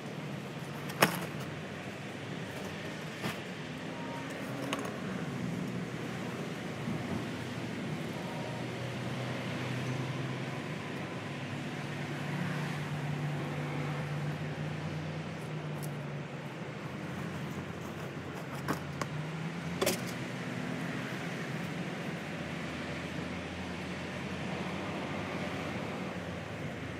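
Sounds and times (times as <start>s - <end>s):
vehicle engine hum: 0.0s - 26.9s.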